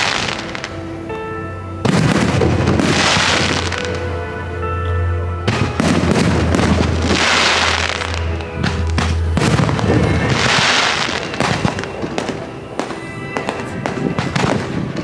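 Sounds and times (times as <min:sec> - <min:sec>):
fireworks bursting: 0:00.0 - 0:01.2, 0:01.8 - 0:04.4, 0:05.5 - 0:15.0
fireworks crackling: 0:00.0 - 0:15.0
music: 0:00.0 - 0:15.0.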